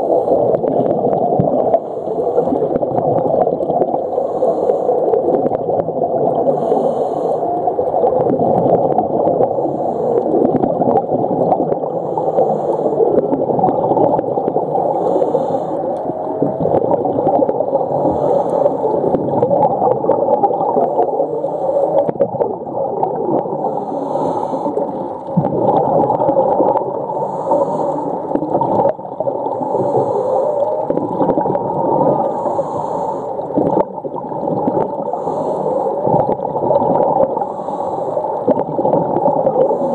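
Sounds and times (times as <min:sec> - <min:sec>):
underwater hiss: 0:00.0 - 0:00.9, 0:01.6 - 0:02.8, 0:03.6 - 0:05.4, 0:06.3 - 0:08.1, 0:08.9 - 0:13.4, 0:14.2 - 0:25.4, 0:26.3 - 0:39.9.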